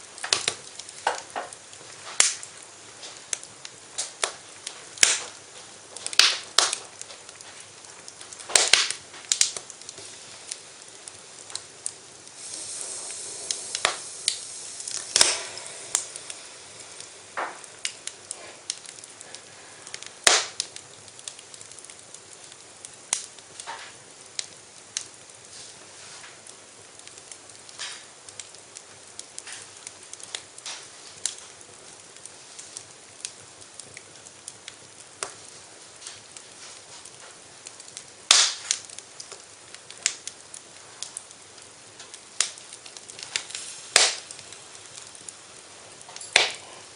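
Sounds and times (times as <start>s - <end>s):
fire hissing: 0.0s - 46.9s
wood fire crackling and popping: 0.0s - 46.9s.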